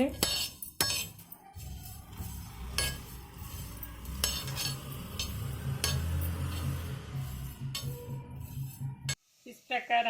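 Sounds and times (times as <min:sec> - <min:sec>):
spatula scraping seeds in a pan: 0:00.0 - 0:09.9.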